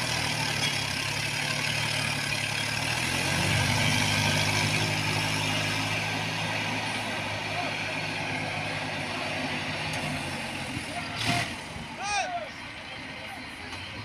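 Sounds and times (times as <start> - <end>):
diesel tractor engine under load: 0.0 - 14.0.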